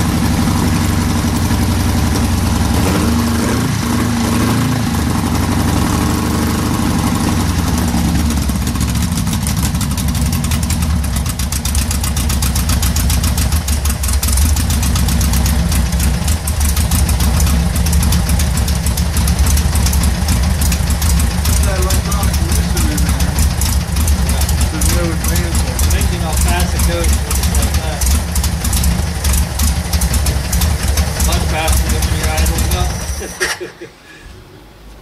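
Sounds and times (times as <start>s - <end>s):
engine idling: 0.0s - 33.6s.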